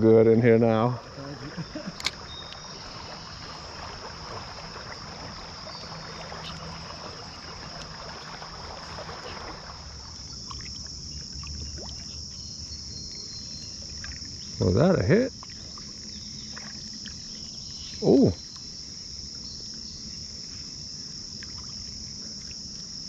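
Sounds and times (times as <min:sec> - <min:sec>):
creek water sloshing: 0:00.0 - 0:23.0
insects droning: 0:00.0 - 0:23.0.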